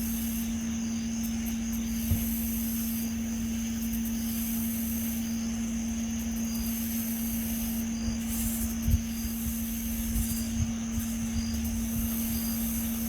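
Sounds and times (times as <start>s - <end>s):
droning hum: 0.0s - 13.0s.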